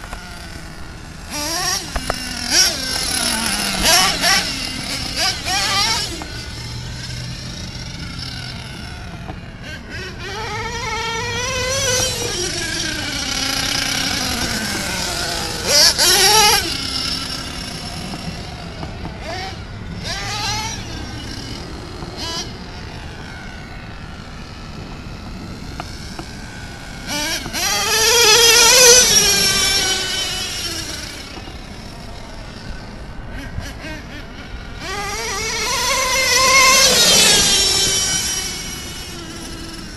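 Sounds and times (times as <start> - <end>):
small nitro engine revving: 0.0 - 39.9.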